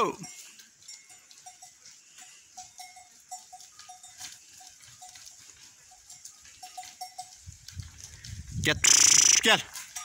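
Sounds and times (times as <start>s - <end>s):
animal bells clinking: 0.0s - 10.0s.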